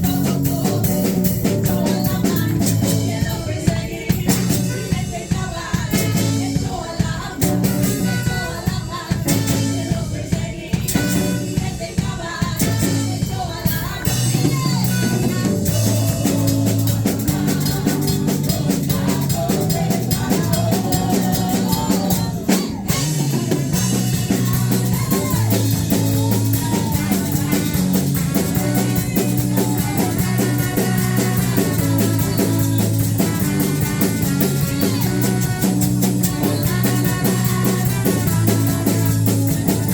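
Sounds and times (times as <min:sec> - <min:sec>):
band playing: 0:00.0 - 0:39.9.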